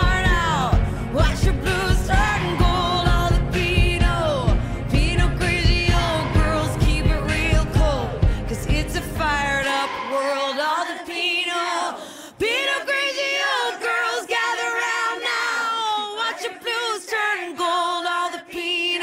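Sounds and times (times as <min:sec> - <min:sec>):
women singing in harmony: 0:00.0 - 0:19.0.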